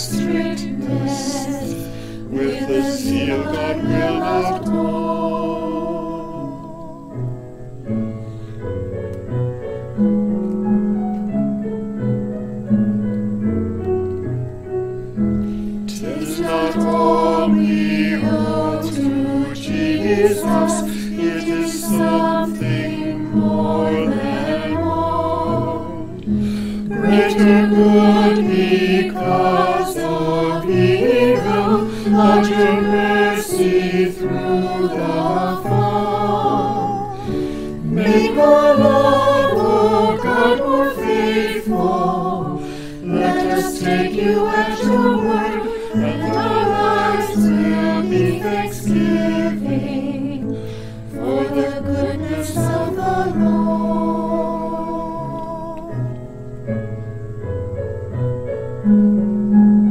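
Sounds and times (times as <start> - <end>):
choir singing a hymn: 0.0 - 10.6, 15.3 - 56.5.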